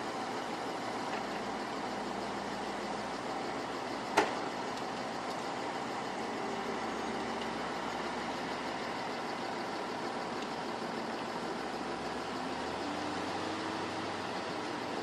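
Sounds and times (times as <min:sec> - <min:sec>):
engine-driven machinery running: 0:00.0 - 0:15.0.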